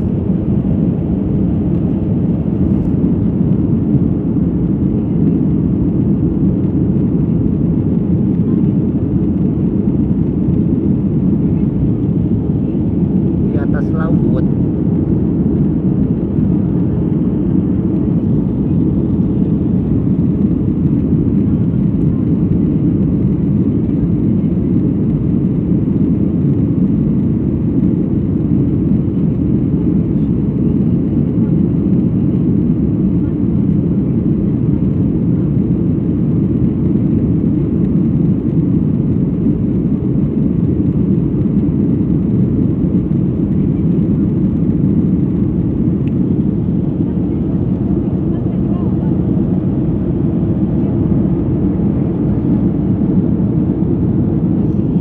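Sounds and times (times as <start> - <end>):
airliner cabin engine roar: 0.0 - 55.0.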